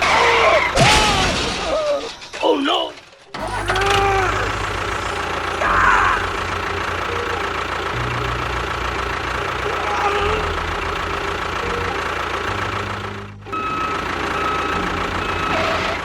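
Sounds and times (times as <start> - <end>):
engine idling with knocking chug: 0.0 - 16.0.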